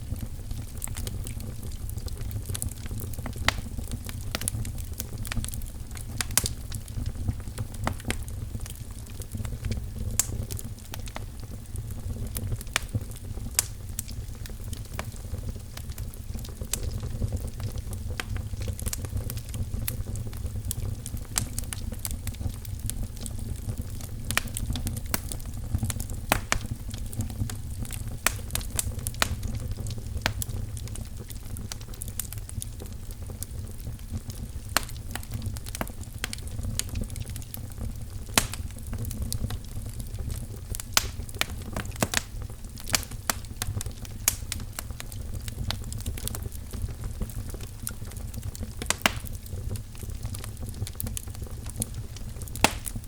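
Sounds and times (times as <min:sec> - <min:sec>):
burning logs rumbling: 0:00.0 - 0:53.0
fire popping and snapping: 0:00.0 - 0:53.0
wood fire crackling: 0:00.0 - 0:53.0.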